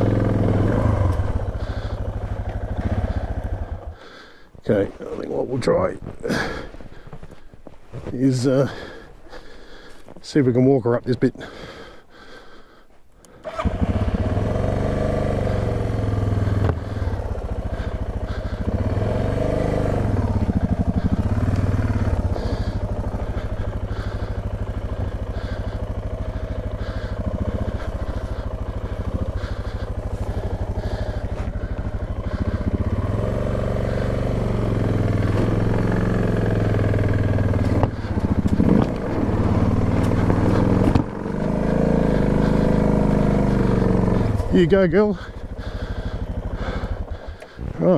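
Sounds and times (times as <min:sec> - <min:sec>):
motorcycle engine revving: 0:00.0 - 0:07.1, 0:13.3 - 0:47.9.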